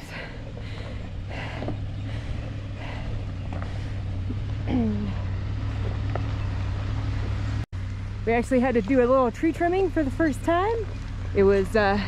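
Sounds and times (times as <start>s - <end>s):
truck engine running low: 0.0s - 12.0s.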